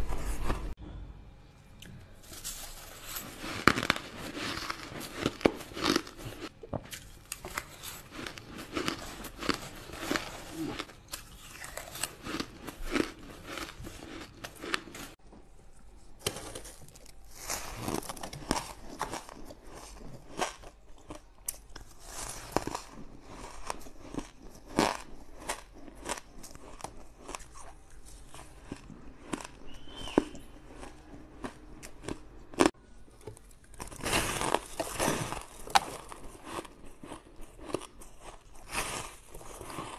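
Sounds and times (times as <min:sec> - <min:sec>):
ice being chewed: 0:02.3 - 0:15.2, 0:16.2 - 0:39.9.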